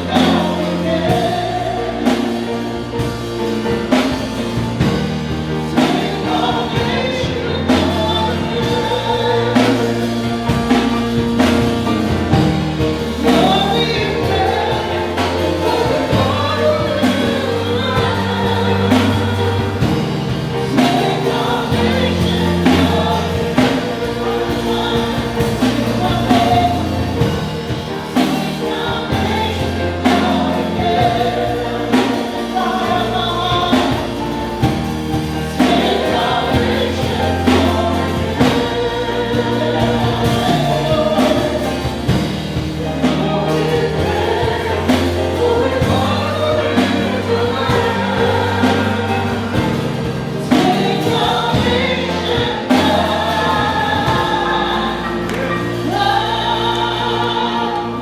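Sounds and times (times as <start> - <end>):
band playing: 0.0 - 58.0
choir singing a gospel hymn: 0.0 - 58.0
drums keeping a steady beat: 0.0 - 58.0.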